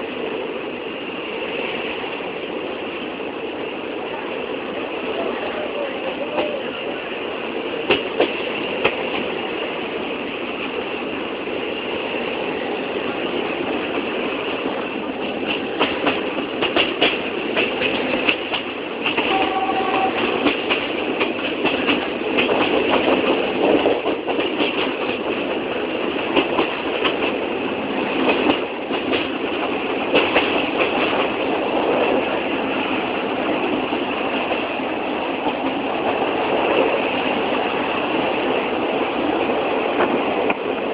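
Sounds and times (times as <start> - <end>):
train rattling rumble: 0.0 - 40.9.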